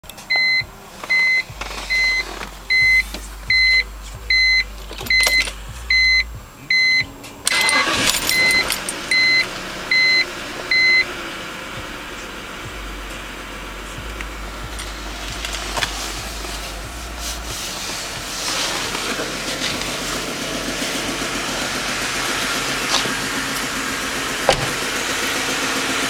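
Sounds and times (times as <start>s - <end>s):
car engine cranking and running: 0.0s - 26.0s
car warning chime beeping: 0.1s - 25.3s.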